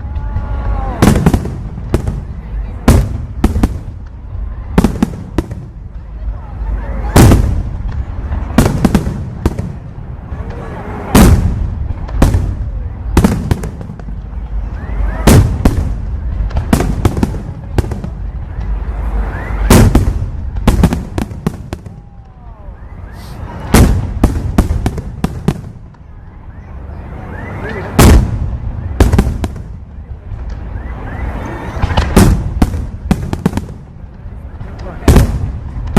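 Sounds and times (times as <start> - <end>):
fireworks bangs: 0.0 - 35.9
low rumble of distant explosions: 0.0 - 35.9.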